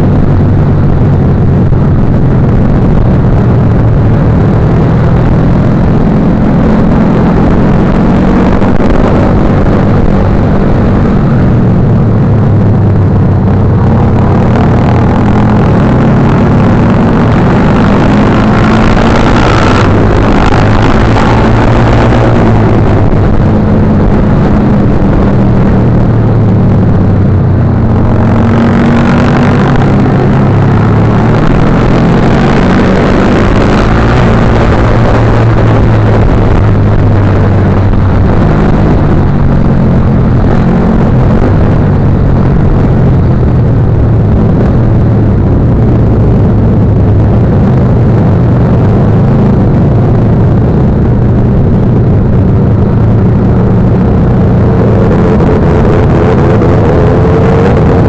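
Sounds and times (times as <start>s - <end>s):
motorcycle engine running: 0.0s - 58.0s
rushing noise: 0.0s - 58.0s.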